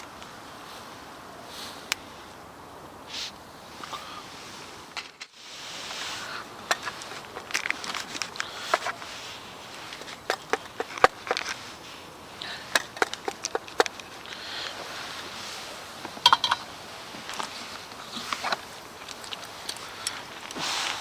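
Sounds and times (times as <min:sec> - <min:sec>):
soft steady hiss: 0:00.0 - 0:21.0.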